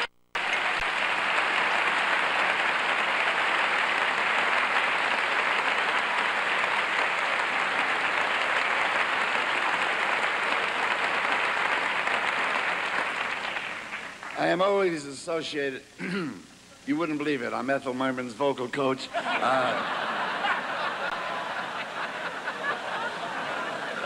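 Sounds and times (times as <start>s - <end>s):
audience applauding: 0.0s - 14.6s, 19.2s - 24.0s.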